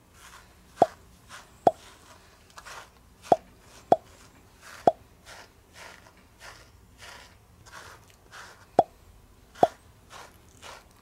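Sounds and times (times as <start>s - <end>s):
brush strokes through dog fur: 0.0s - 8.8s, 9.5s - 11.0s.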